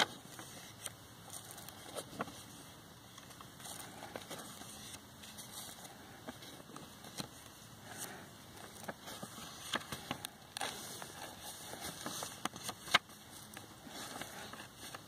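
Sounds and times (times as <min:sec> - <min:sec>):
paper pages being turned: 0:00.0 - 0:15.0.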